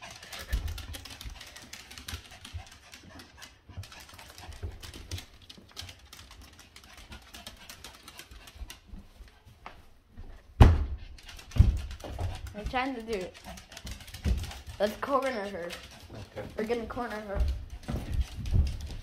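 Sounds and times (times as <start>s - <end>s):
dog claws clicking on wooden floor: 0.0s - 9.4s, 11.1s - 19.0s.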